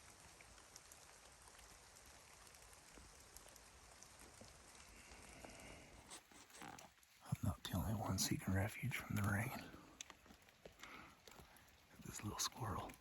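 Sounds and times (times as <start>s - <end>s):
faint rain falling: 0.0s - 13.0s
raindrops ticking: 0.0s - 13.0s.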